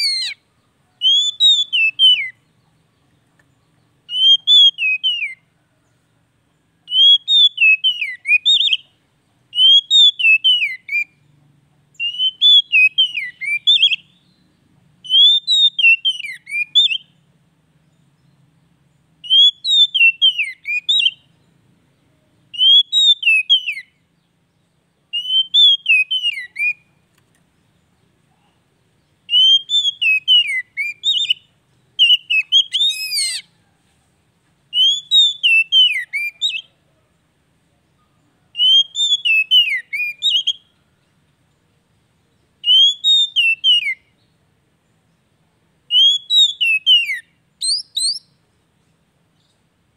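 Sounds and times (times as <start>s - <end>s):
magpie-robin singing: 0.0s - 33.7s, 34.7s - 37.1s, 37.7s - 49.9s.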